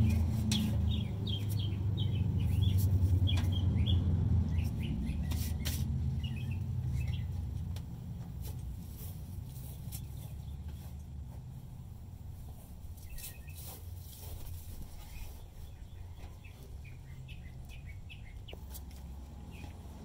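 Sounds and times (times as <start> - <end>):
low steady rumble: 0.0 - 20.0
small birds chirping: 0.0 - 20.0.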